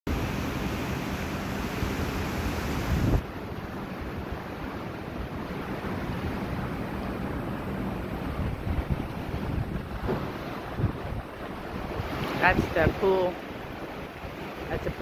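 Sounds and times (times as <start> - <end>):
choppy water washing: 0.1 - 15.0
gusty wind buffeting microphone: 0.1 - 15.0.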